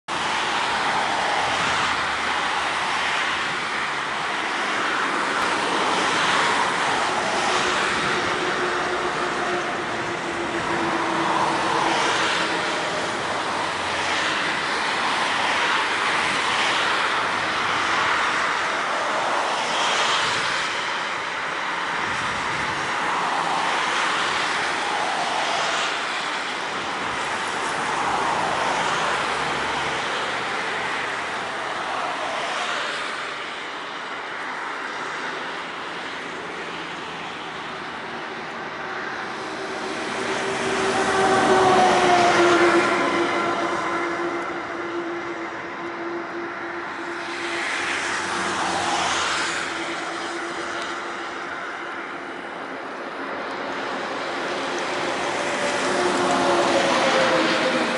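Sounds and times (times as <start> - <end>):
jet engine roar: 0.1 - 33.9, 36.1 - 57.9.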